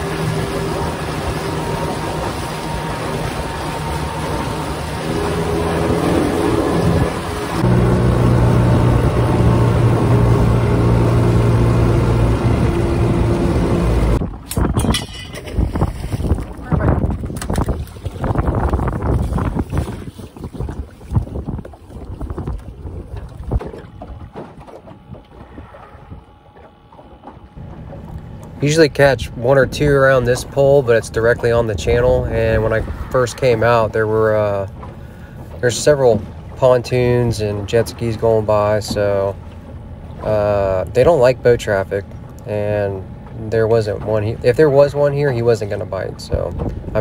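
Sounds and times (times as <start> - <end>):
outboard motor running: 0.0 - 47.0
wind and water rushing: 0.0 - 47.0.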